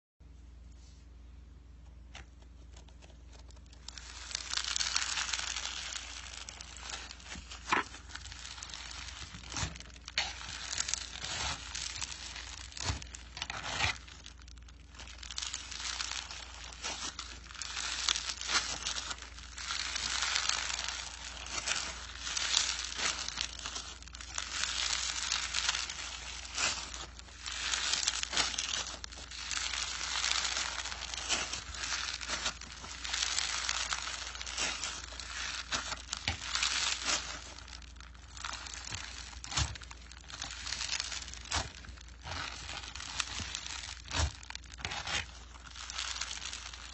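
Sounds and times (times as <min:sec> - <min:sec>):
slime crackling when squeezed: 0:03.3 - 0:46.9.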